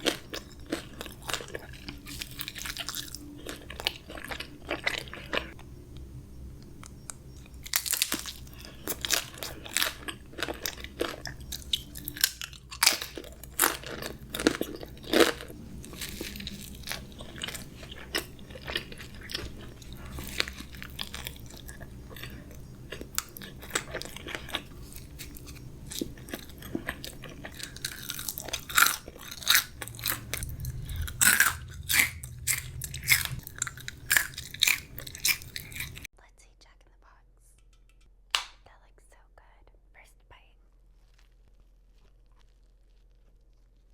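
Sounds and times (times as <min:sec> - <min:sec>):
crunchy food chewing: 0:00.0 - 0:36.1, 0:41.0 - 0:43.9.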